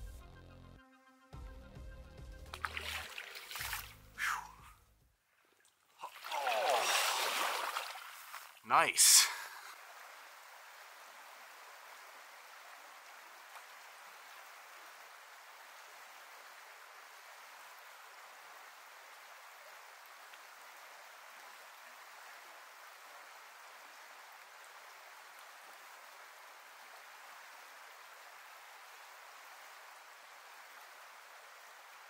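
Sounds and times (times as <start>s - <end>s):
river water rushing: 2.6s - 4.6s, 6.0s - 32.0s.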